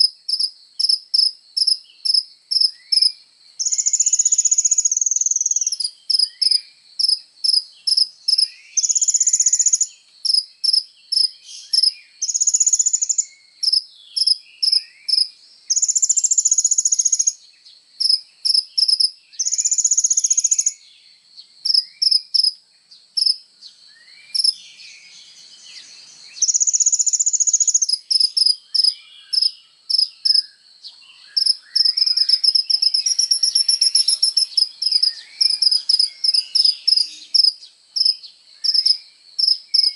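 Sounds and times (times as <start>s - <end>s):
faint lower sweeping bird calls: 0.0s - 39.9s
bird high sharp chirping: 0.8s - 6.6s, 7.5s - 17.4s, 18.0s - 20.8s, 24.0s - 30.5s, 31.2s - 39.9s.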